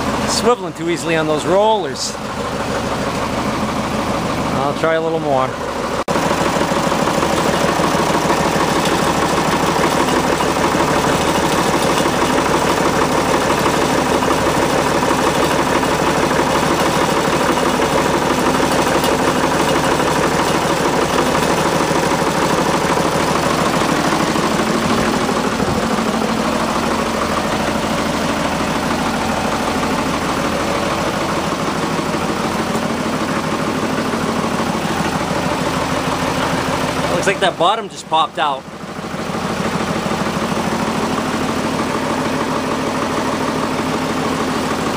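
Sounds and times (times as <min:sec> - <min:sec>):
loader engine running: 0:00.0 - 0:44.9.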